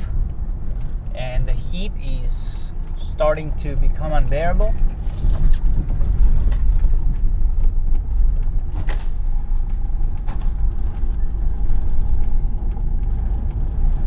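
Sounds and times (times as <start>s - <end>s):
car interior driving rumble: 0.0s - 14.0s.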